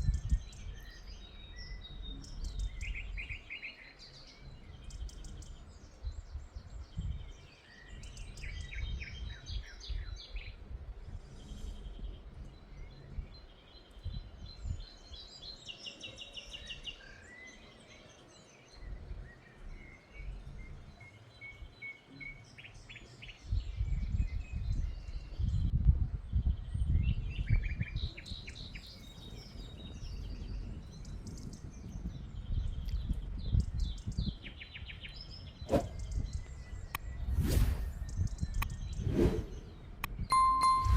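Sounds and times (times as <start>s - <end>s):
small birds chirping and trilling: 0.0s - 40.8s.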